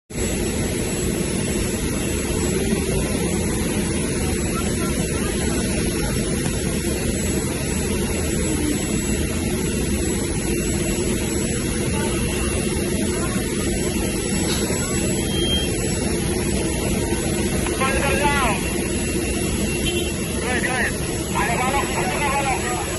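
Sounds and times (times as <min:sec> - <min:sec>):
aircraft engine drone: 0:00.1 - 0:22.9
faint high whine: 0:00.2 - 0:22.9.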